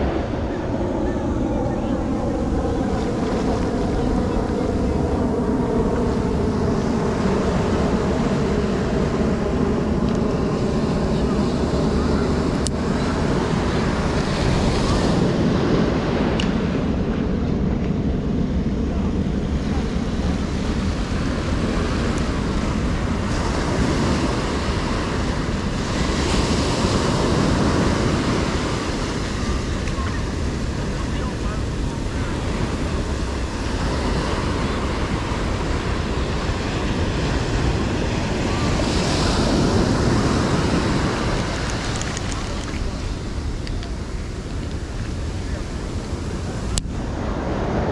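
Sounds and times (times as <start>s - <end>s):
ocean surf breaking: 0.0s - 47.9s
wind on microphone: 0.0s - 47.9s.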